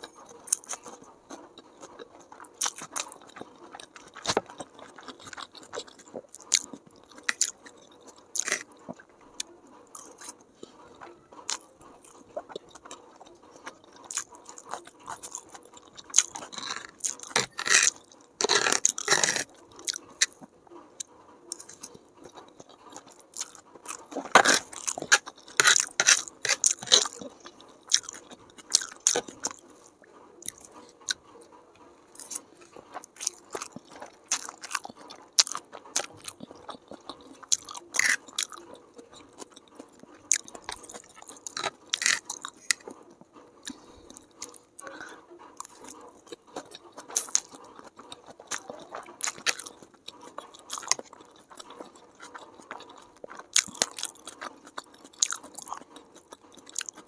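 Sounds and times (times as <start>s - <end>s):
chewing with wet mouth clicks: 0.0s - 57.0s.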